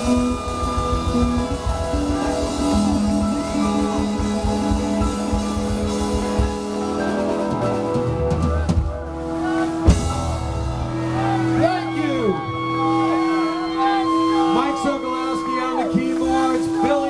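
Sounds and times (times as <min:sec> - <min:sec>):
drum kit: 0:00.0 - 0:15.0
bass: 0:00.0 - 0:17.0
electric guitar: 0:00.0 - 0:17.0
keyboards: 0:00.0 - 0:17.0.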